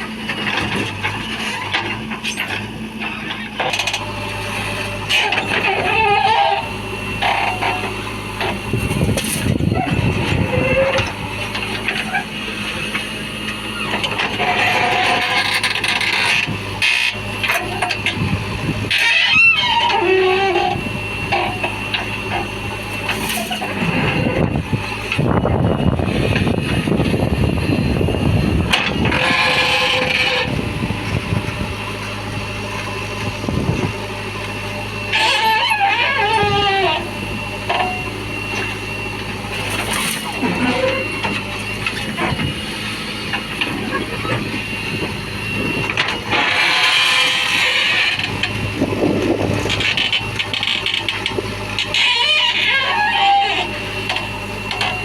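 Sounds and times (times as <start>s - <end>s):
heavy diesel engine running: 0.0s - 55.0s
wavering whine: 0.0s - 55.0s.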